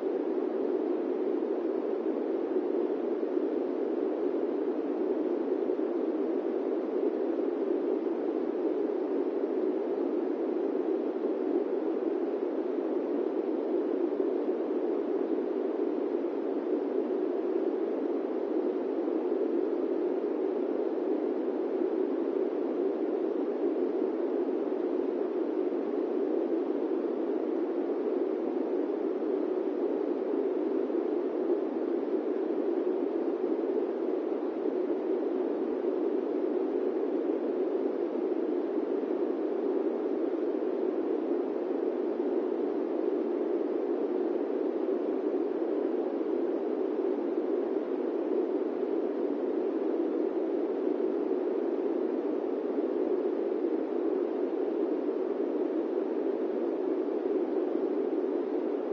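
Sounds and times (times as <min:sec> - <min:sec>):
airplane cabin white noise: 0:00.0 - 0:58.9.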